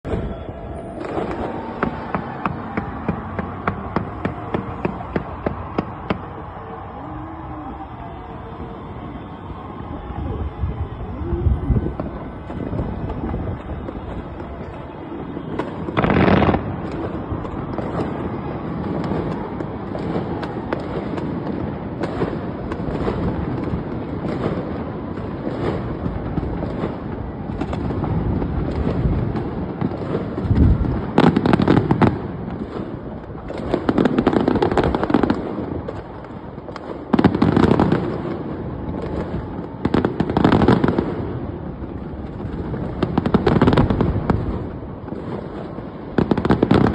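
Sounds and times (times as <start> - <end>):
fireworks crackling and bursting: 0.0 - 46.9.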